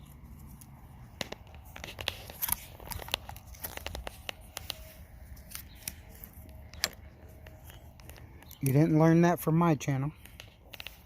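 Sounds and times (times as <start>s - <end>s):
hand handling clicks and crinkling: 0.0s - 9.1s, 10.1s - 11.0s.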